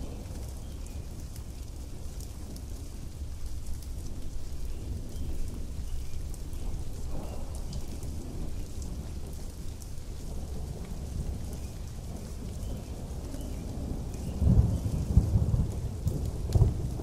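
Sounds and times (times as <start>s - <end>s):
heavy rain pouring: 0.0s - 17.0s
low rumble of thunder: 0.0s - 17.0s
raindrops ticking: 0.0s - 17.0s.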